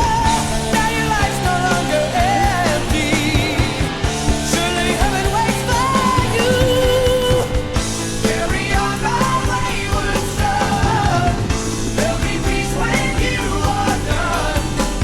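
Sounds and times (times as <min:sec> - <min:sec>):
guitars: 0:00.0 - 0:15.0
person singing: 0:00.0 - 0:15.0
steady drum beat: 0:00.0 - 0:15.0.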